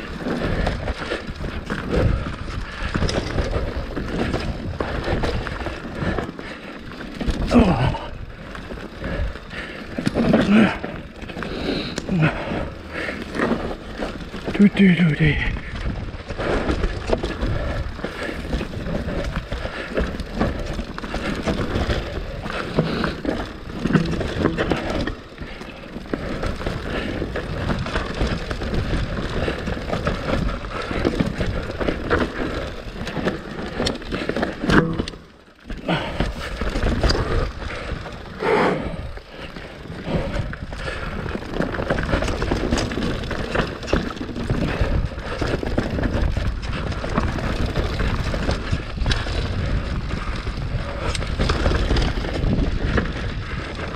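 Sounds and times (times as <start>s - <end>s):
bike rattling and clattering: 0.0s - 53.9s
bike tyres rolling over dirt: 0.0s - 53.9s.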